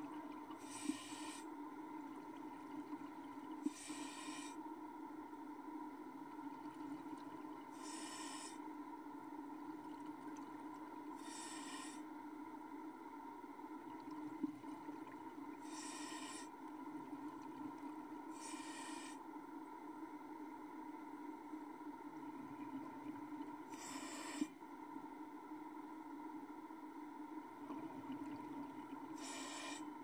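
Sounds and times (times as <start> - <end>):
low underwater hum: 0.0 - 30.0.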